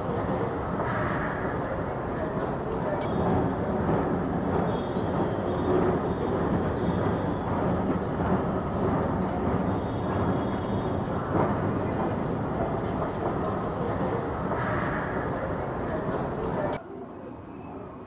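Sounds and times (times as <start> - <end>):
escalator rumble: 0.0 - 16.8
echoing station hall ambience: 0.0 - 18.0.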